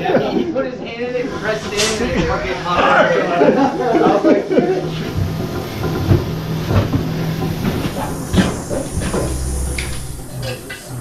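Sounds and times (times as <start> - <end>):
compressed air hissing: 1.2 - 11.0
low hum: 1.4 - 11.0.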